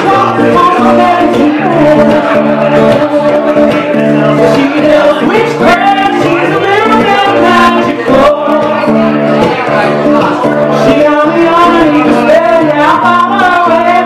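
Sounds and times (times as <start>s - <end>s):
acoustic guitar: 0.0s - 14.0s
woman singing: 0.0s - 14.0s.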